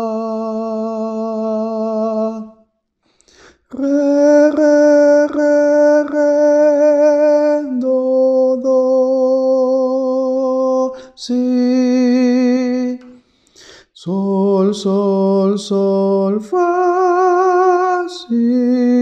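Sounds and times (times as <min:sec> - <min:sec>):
man singing long held notes: 0:00.0 - 0:02.6, 0:03.6 - 0:13.2, 0:13.9 - 0:19.0.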